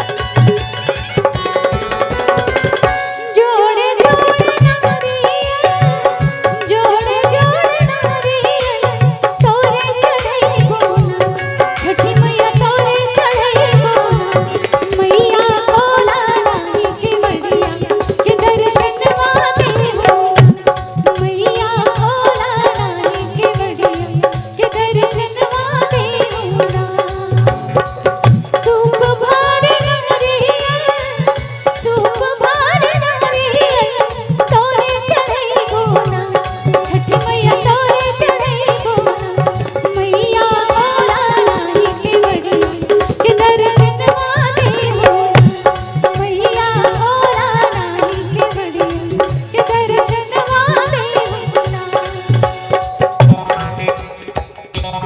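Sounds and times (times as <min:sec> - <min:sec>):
accompanying instruments: 0:00.0 - 0:55.0
hand drum beats: 0:00.0 - 0:55.0
woman singing: 0:02.9 - 0:52.8.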